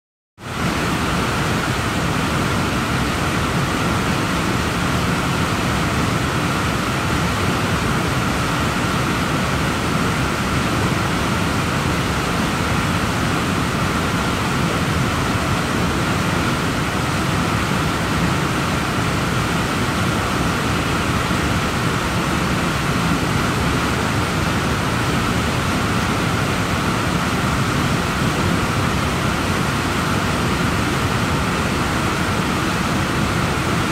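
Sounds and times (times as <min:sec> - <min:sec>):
whitewater roaring: 0:00.4 - 0:33.9.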